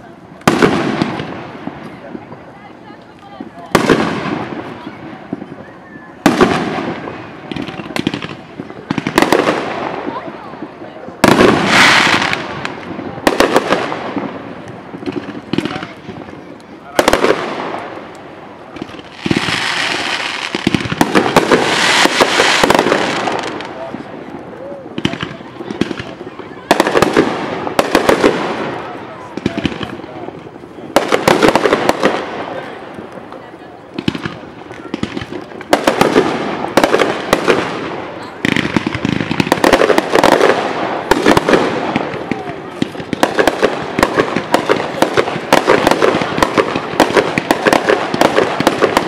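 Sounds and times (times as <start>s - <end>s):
fireworks bangs: 0.0s - 49.0s
fireworks crackling: 0.0s - 49.0s.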